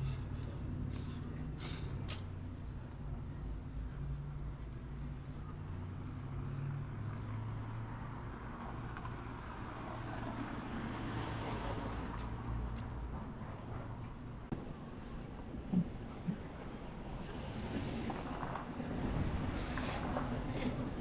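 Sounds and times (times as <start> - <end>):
passing traffic: 0.0 - 21.0.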